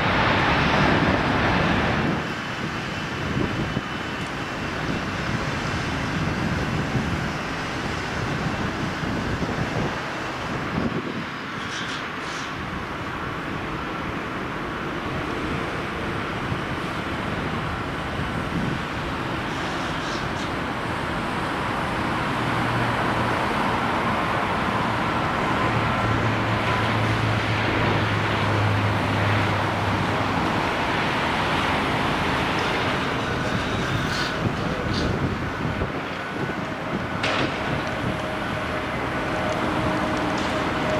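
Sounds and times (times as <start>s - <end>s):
steady engine roar: 0.0s - 40.9s.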